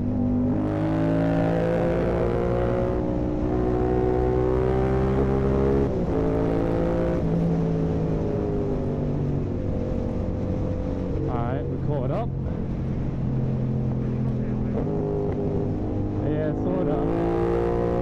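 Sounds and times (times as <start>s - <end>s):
motorcycle engine revving: 0.0s - 11.5s, 12.4s - 18.0s.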